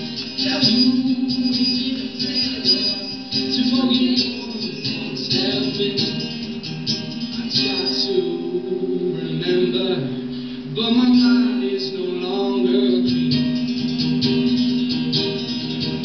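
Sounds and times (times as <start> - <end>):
person singing: 0.0 - 14.8
acoustic guitar strumming: 0.0 - 16.0.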